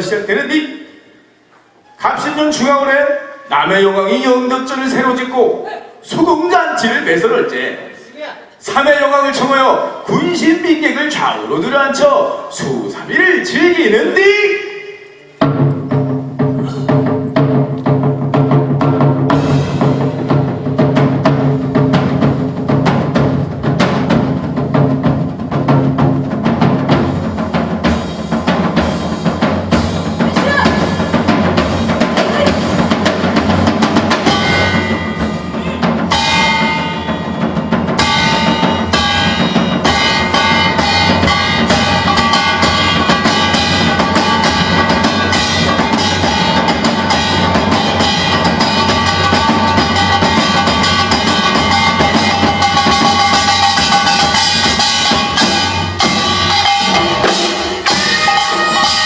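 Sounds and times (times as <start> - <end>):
busy drumming: 1.3 - 59.0.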